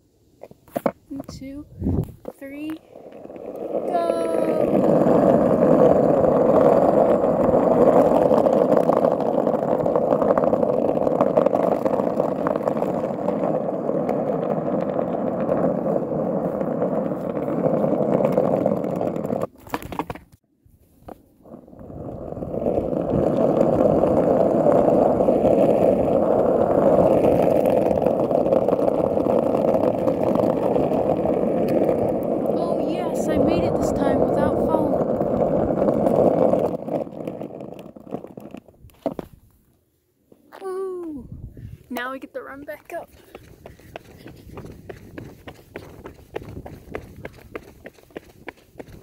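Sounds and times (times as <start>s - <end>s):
skateboard wheels rolling on asphalt: 0.0s - 49.0s.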